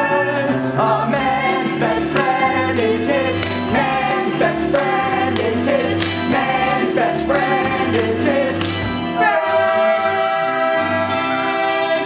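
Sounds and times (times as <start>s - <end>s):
band accompaniment: 0.0s - 12.0s
performers singing together: 0.0s - 12.0s.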